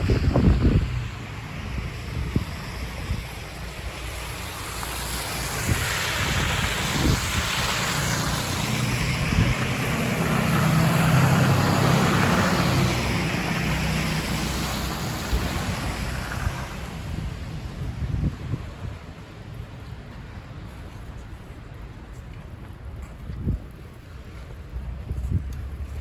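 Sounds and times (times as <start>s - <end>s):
vehicle passing on snowy street: 0.0s - 22.1s, 23.6s - 26.0s
wind buffeting microphone: 0.0s - 26.0s.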